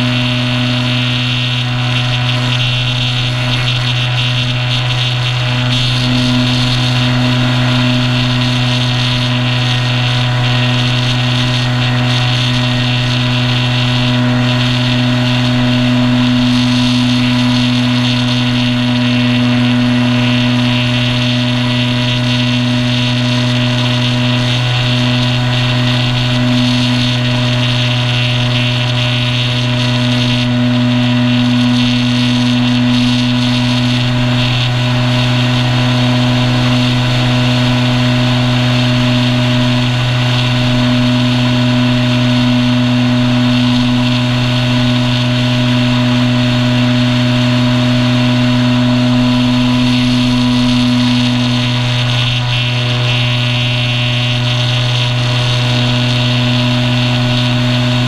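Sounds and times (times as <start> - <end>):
electric motor and propeller drone: 0.0 - 58.0.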